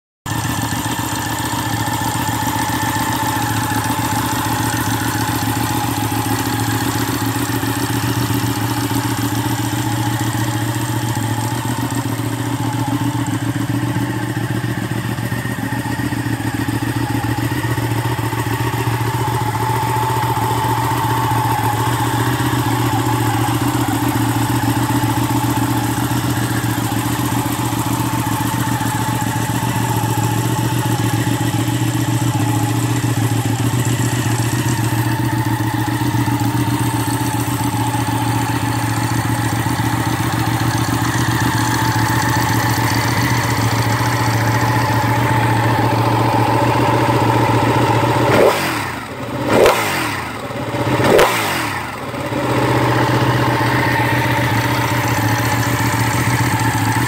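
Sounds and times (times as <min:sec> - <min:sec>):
motorcycle engine idling: 0:00.2 - 0:57.0.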